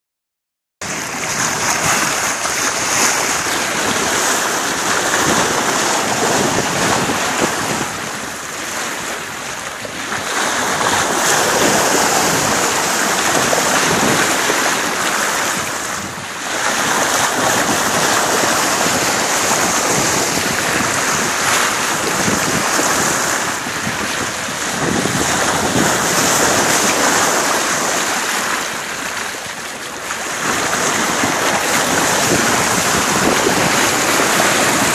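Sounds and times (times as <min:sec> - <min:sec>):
water rushing along a boat bow: 0:00.8 - 0:34.9
wind buffeting microphone: 0:00.8 - 0:34.9.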